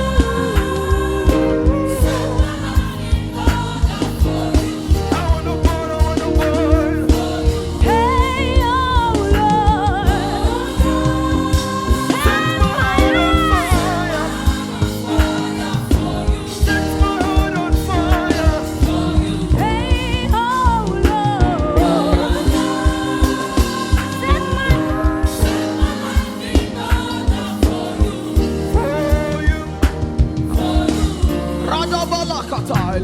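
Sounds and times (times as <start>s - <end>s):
gospel singing over chords: 0.0s - 33.0s
steady beat: 0.0s - 33.0s.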